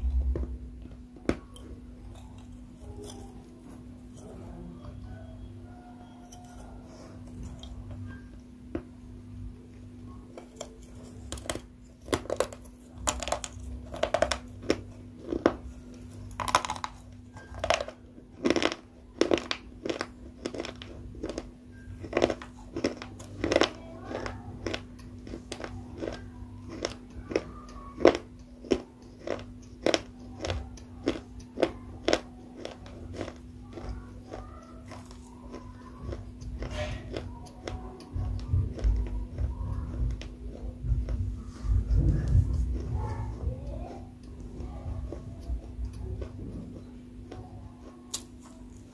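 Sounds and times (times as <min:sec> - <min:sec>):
crunchy chewing: 0:00.0 - 0:48.9
steady low hum: 0:00.0 - 0:48.9.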